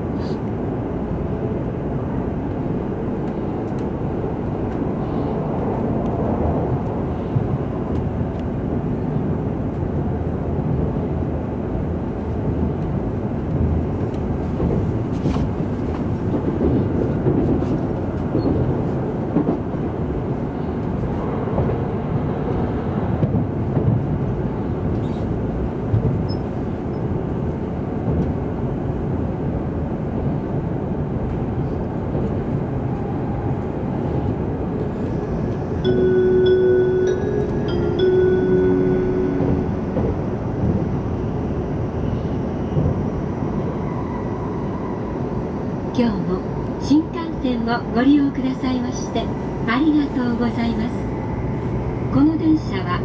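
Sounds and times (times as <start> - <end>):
train running gear rumble: 0.0 - 53.0.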